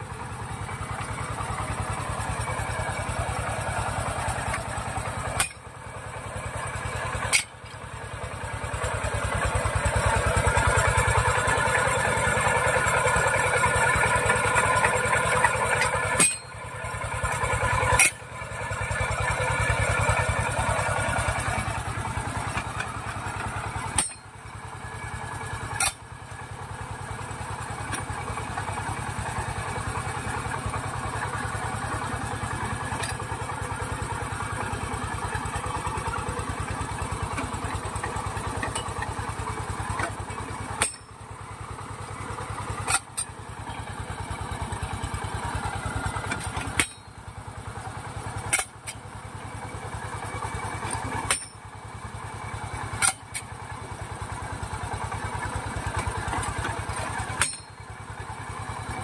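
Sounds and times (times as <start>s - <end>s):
drilling rig engine putter: 0.1s - 59.0s.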